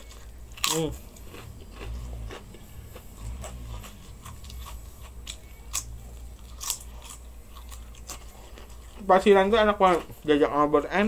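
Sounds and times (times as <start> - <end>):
chewing crisp cracker: 0.0 - 10.5.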